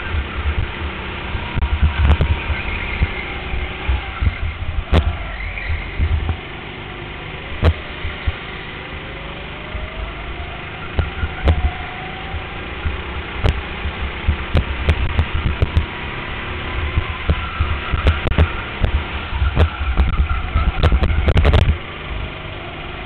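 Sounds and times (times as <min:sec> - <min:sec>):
go-kart engine rumble: 0:00.0 - 0:23.0.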